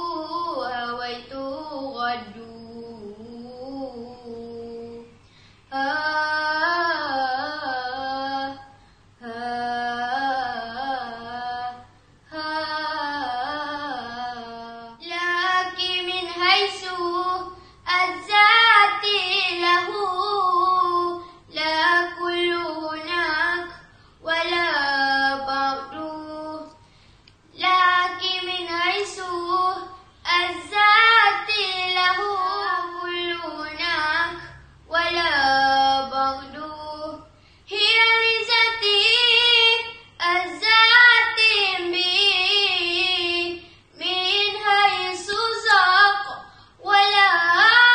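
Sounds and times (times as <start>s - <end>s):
girl singing: 0.0s - 26.8s, 27.4s - 47.9s.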